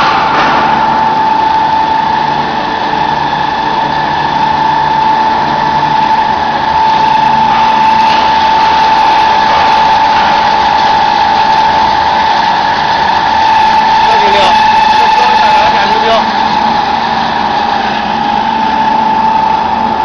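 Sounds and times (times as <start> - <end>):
pellet press machine whining: 0.0 - 20.0.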